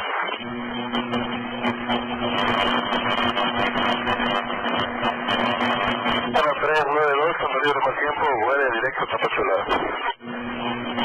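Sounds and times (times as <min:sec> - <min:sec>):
radio static and hiss: 0:00.0 - 0:11.0
steady low hum: 0:00.4 - 0:11.0.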